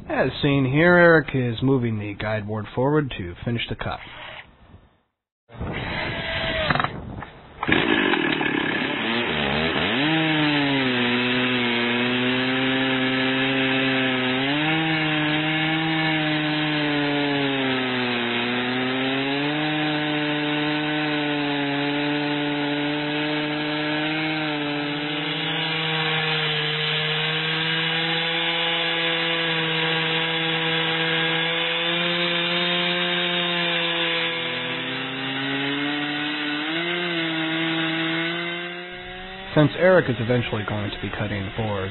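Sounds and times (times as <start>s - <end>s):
chainsaw ripping through log: 5.6s - 7.0s, 7.6s - 41.9s.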